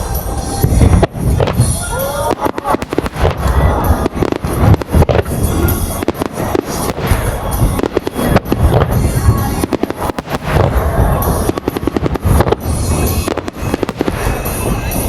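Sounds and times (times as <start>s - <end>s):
fireworks bursting: 0.0s - 15.0s
fireworks crackling: 0.0s - 15.0s
low rumble: 0.0s - 15.0s
music: 0.0s - 15.0s.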